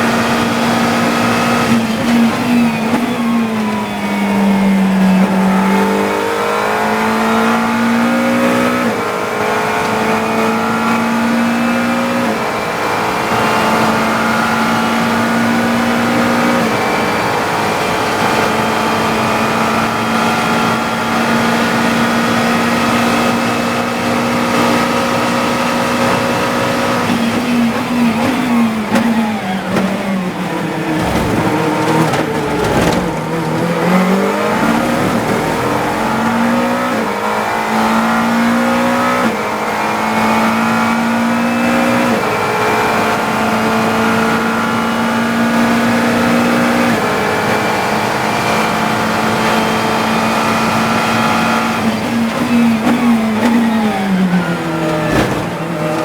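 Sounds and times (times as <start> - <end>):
race car engine shifting gears: 0.0 - 56.0.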